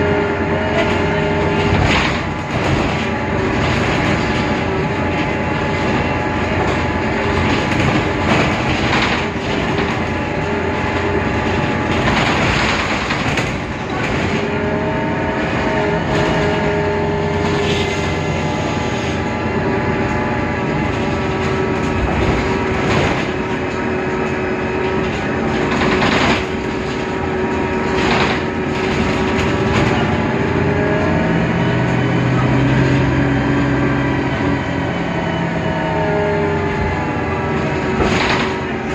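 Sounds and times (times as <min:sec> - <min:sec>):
bus body knocks and rattles: 0:00.0 - 0:34.6, 0:36.7 - 0:38.9
bus engine drone with whine: 0:00.0 - 0:38.9.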